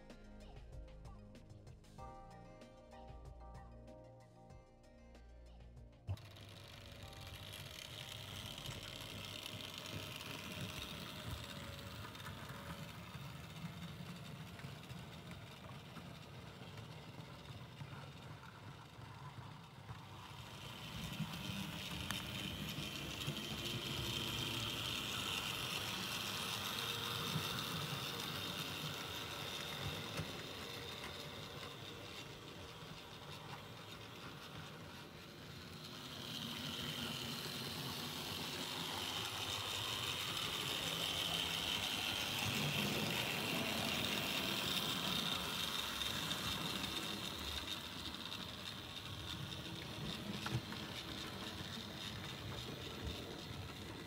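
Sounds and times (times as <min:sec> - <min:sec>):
model train motor whine: 0:06.1 - 0:54.0
rolling wheel noise: 0:06.1 - 0:54.0.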